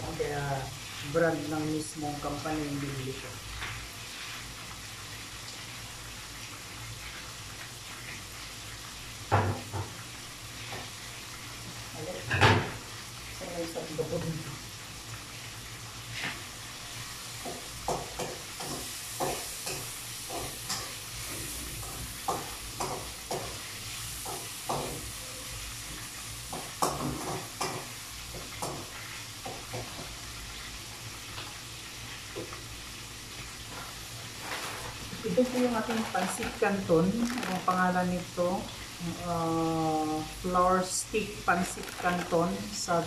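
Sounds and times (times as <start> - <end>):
food sizzling: 0.0 - 43.0.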